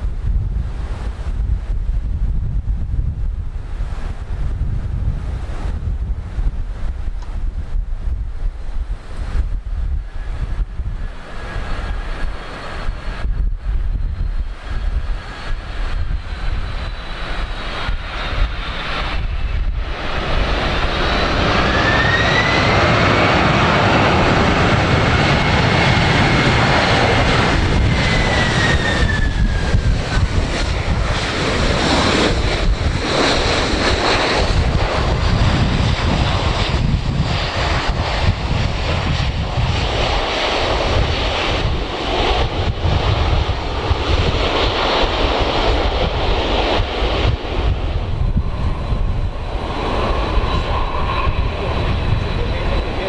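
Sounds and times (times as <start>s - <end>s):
jet engine whine: 0.0s - 53.0s
jet engines roaring: 2.8s - 53.0s.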